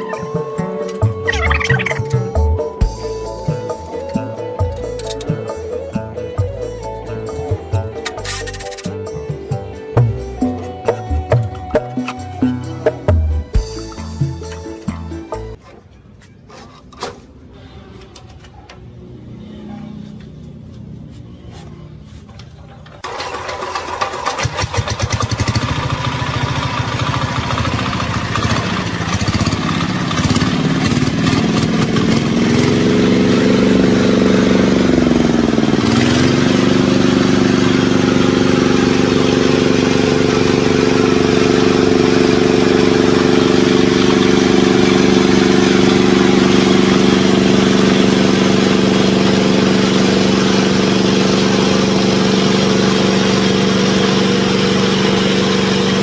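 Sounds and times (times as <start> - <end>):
generator engine running: 0.0 - 15.6, 23.0 - 56.0.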